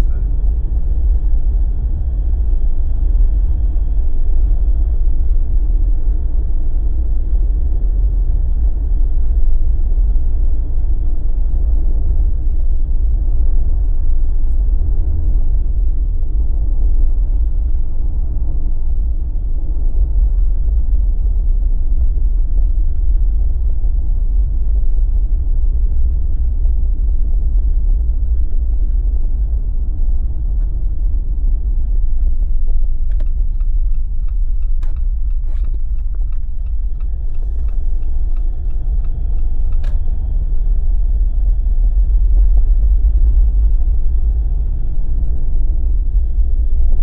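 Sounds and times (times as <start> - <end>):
car driving road rumble: 0.0 - 47.0.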